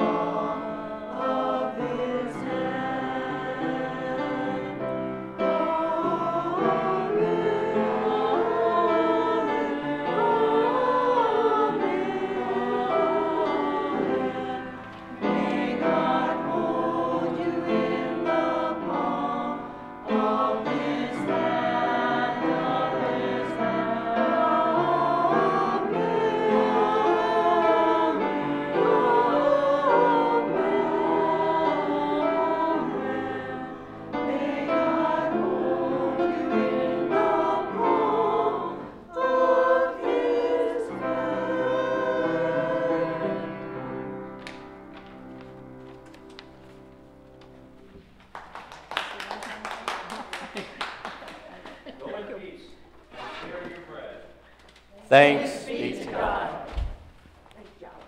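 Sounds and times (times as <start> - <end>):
church choir singing: 0.0 - 48.2, 54.2 - 57.2.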